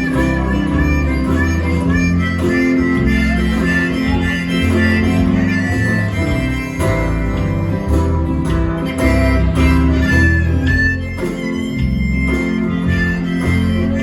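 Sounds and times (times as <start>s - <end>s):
live band playing instrumental: 0.0s - 14.0s.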